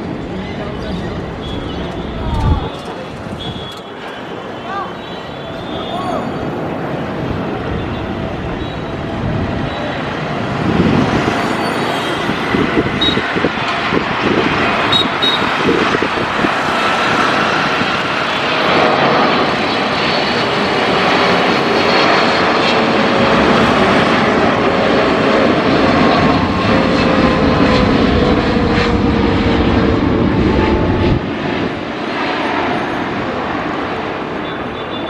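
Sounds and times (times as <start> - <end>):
airliner engines roaring: 0.0 - 35.0
jet engine whine falling in pitch: 0.0 - 35.0.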